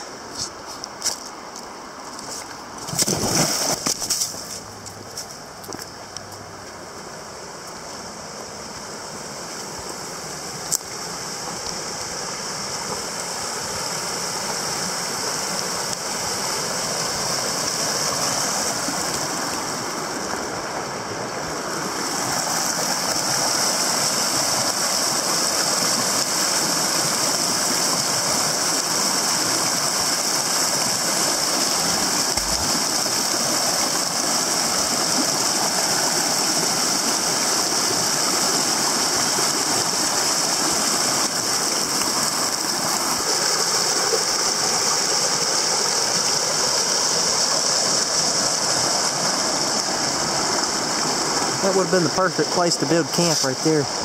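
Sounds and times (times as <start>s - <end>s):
creek water rushing over boulders: 0.0s - 54.0s.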